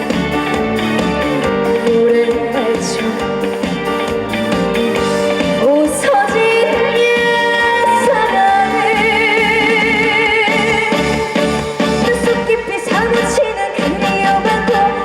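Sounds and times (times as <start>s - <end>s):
instrumental backing music: 0.0s - 15.0s
woman singing: 1.3s - 3.9s, 4.8s - 15.0s.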